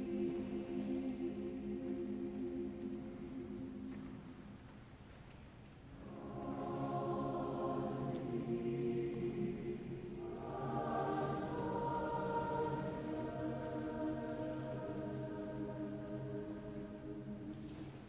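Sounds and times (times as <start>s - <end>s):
choir singing sustained chords: 0.0s - 4.7s, 5.9s - 18.0s.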